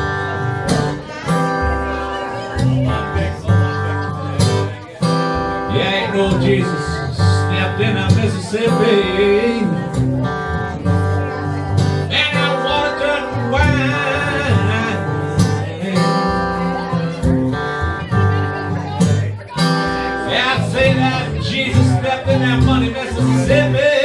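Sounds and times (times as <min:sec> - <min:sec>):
acoustic guitars playing blues: 0:00.0 - 0:24.0.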